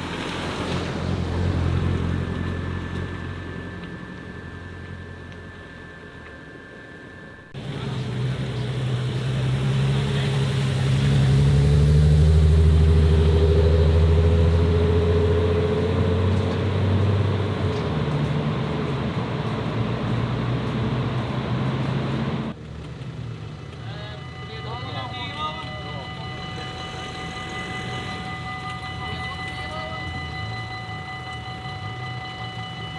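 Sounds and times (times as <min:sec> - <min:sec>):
car engine driving past: 0:00.0 - 0:05.2, 0:07.6 - 0:31.7.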